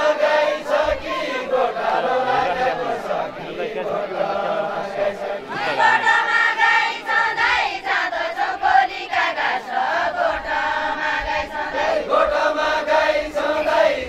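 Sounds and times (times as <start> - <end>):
women singing together: 0.0 - 14.0.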